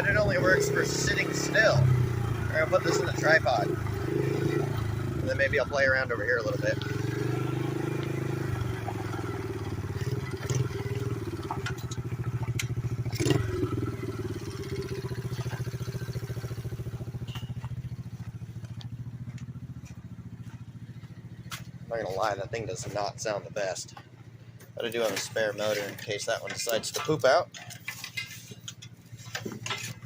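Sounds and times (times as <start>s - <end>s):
small motorbike engine running: 0.0s - 23.2s, 24.6s - 30.0s.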